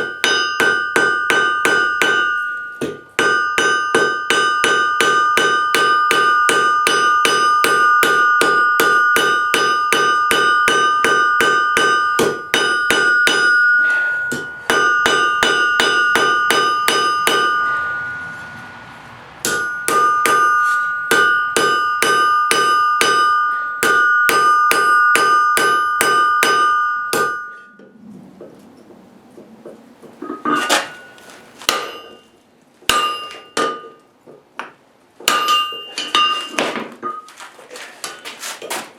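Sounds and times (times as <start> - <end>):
hammer striking steel on anvil: 0.0 - 28.0, 30.2 - 37.3.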